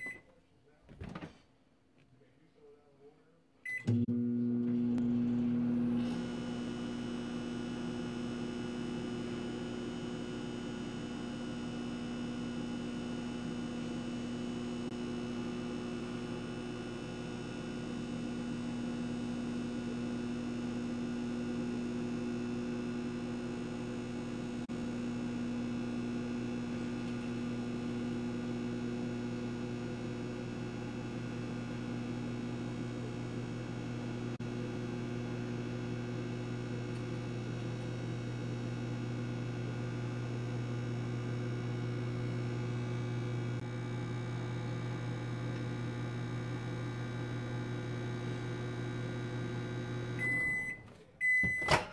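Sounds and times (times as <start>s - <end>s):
electrical hum: 3.7s - 51.6s.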